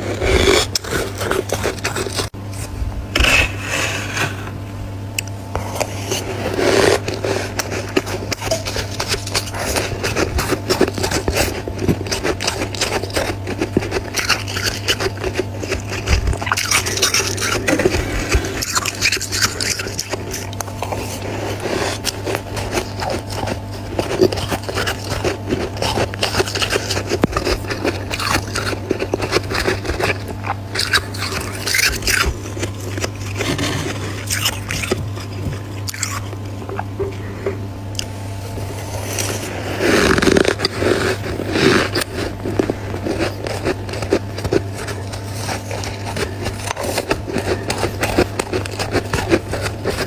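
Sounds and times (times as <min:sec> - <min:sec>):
chewing crunchy frost: 0:00.0 - 0:04.4, 0:05.2 - 0:50.0
low hum: 0:00.0 - 0:48.7.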